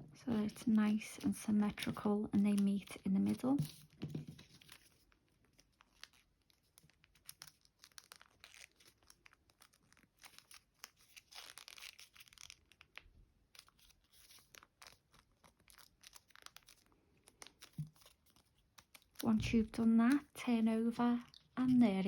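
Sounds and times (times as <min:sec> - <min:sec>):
paper rustling and crinkling: 0:00.2 - 0:20.4.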